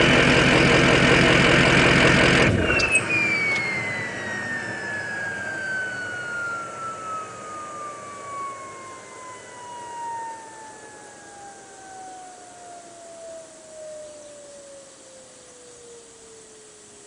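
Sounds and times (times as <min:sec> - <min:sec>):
turbocharger whistle spinning down: 0:00.0 - 0:15.0.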